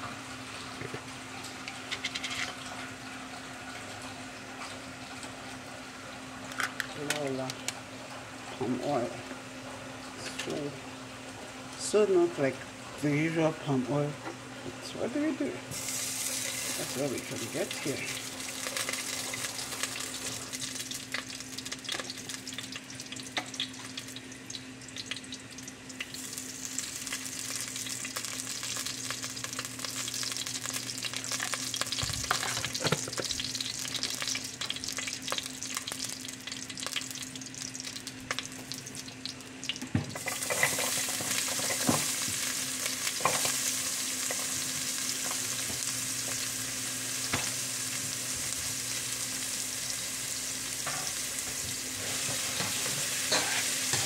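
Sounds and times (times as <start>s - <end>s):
oil crackling and sizzling: 0.0s - 12.0s, 15.7s - 54.0s.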